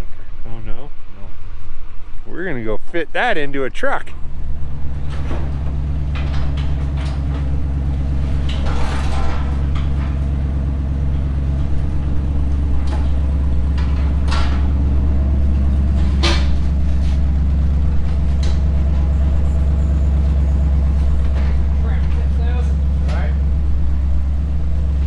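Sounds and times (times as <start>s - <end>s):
truck engine idling: 3.7s - 25.0s.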